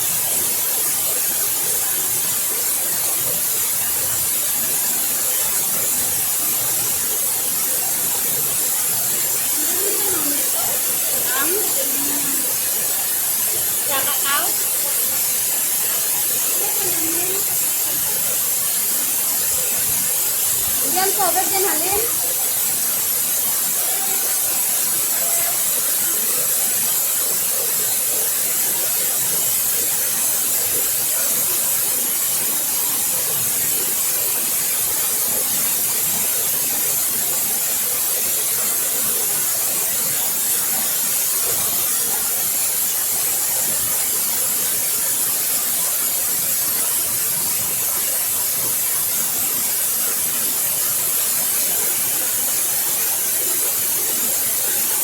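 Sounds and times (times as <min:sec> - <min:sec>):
waterfall splashing: 0:02.6 - 0:55.0.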